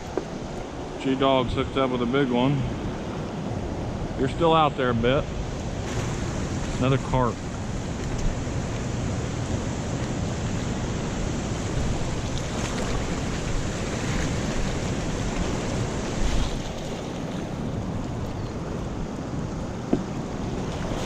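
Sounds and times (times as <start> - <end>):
fast river current rushing: 0.0 - 21.0
wind buffeting microphone: 0.0 - 21.0.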